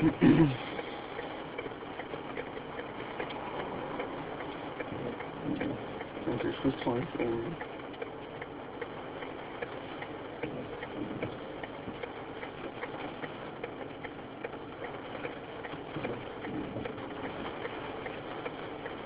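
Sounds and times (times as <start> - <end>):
car engine idling: 0.0 - 19.0
light regular ticking: 0.0 - 19.0.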